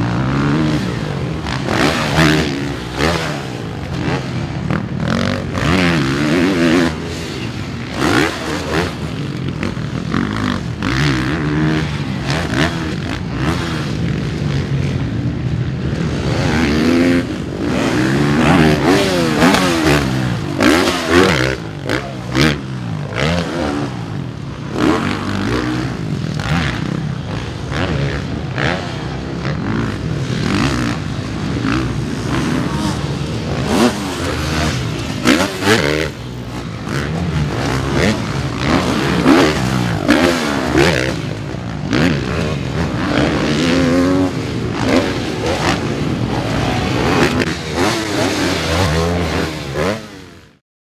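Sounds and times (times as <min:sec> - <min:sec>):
motocross bike engine revving: 0:00.0 - 0:50.6.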